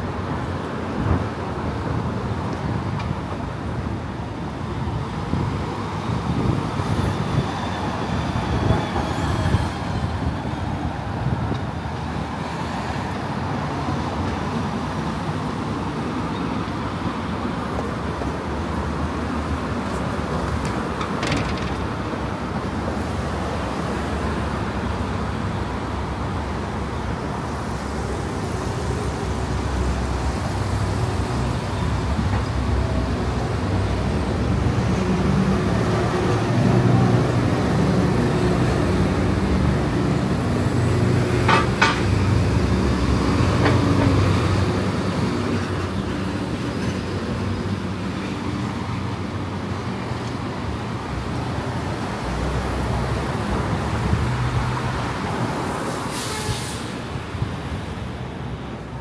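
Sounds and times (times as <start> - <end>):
cars passing on a road: 0.0 - 59.0.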